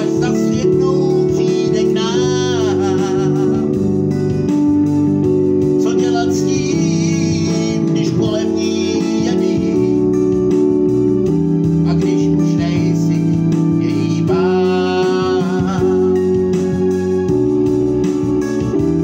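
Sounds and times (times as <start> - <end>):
man singing: 0.0 - 4.4, 5.7 - 10.9, 11.5 - 17.2
electronic keyboard chords: 0.0 - 19.0.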